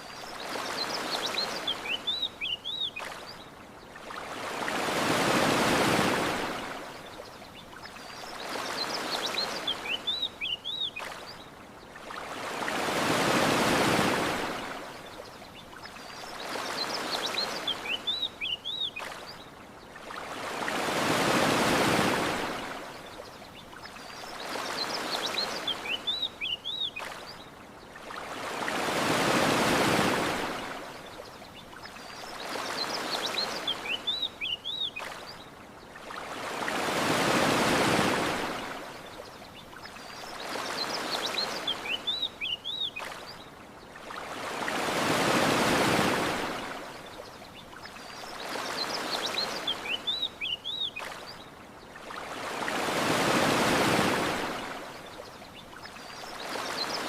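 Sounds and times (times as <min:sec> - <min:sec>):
ocean waves washing up shore: 0:00.0 - 0:57.0.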